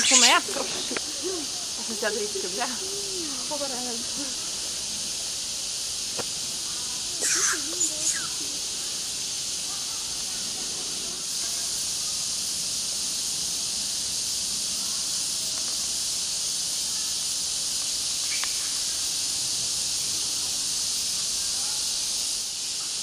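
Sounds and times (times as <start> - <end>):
cicada chorus hissing: 0.0 - 23.0.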